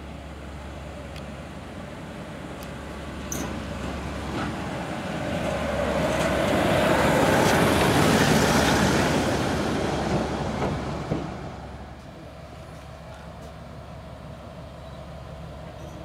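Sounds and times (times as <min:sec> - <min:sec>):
diesel locomotive passing: 0:00.0 - 0:16.0.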